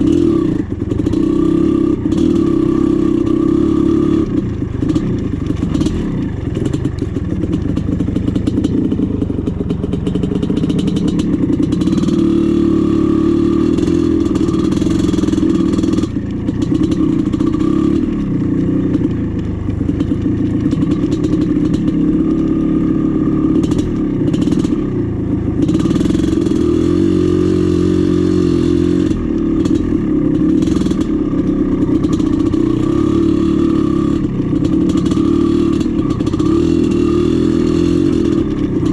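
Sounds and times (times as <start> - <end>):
dirt bike engine revving: 0.0 - 19.1, 19.8 - 25.0, 25.6 - 38.9.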